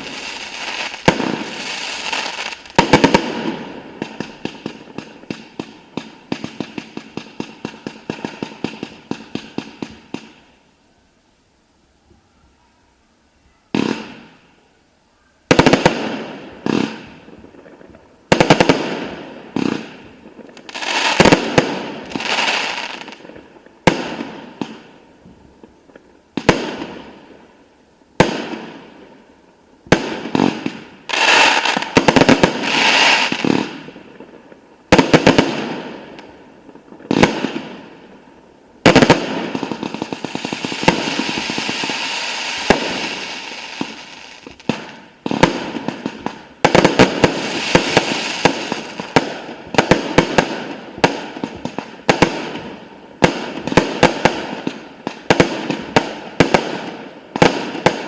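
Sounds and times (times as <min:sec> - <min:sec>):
dense firework crackling: 0:00.0 - 0:10.6, 0:15.5 - 0:58.0.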